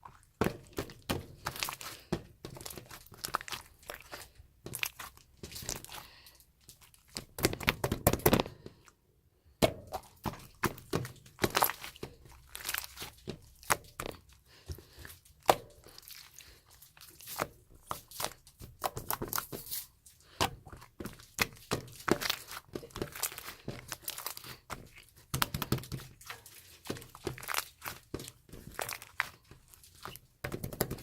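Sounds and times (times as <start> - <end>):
slime squished by hand: 0.0 - 8.9, 9.5 - 31.0.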